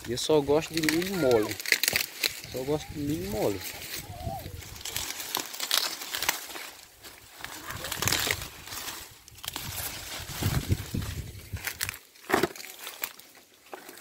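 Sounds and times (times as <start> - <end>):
dry leaves and stalks rustling: 0.0 - 14.0.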